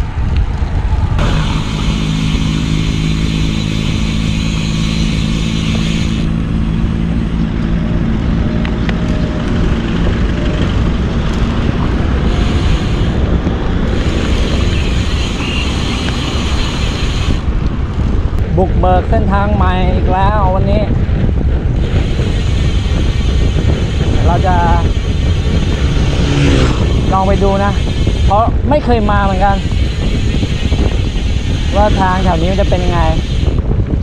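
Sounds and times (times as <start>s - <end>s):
vehicle engine humming: 0.0s - 19.4s, 20.9s - 34.0s
wind and road rush: 0.0s - 34.0s.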